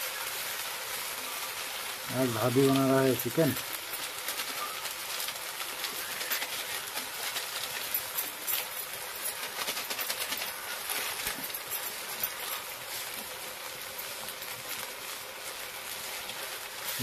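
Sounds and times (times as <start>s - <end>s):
curry sizzling in oil: 0.0s - 17.0s.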